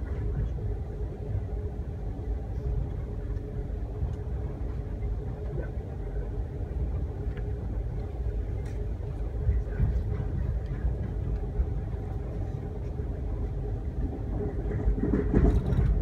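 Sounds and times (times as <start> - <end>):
train rumble from inside: 0.0 - 16.0.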